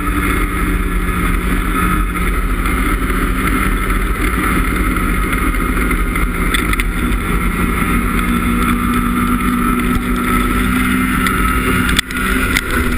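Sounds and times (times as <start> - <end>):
snowmobile engine running: 0.0 - 12.9.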